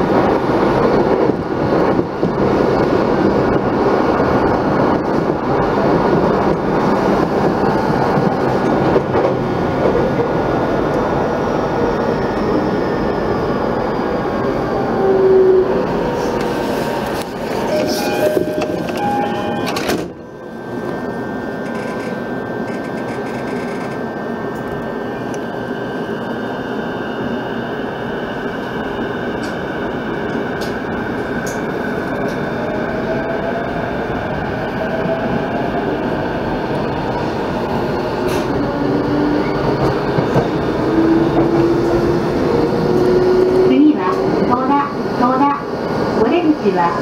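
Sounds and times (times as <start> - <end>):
electric train rumbling: 0.0 - 47.0
train passing close by: 0.0 - 47.0.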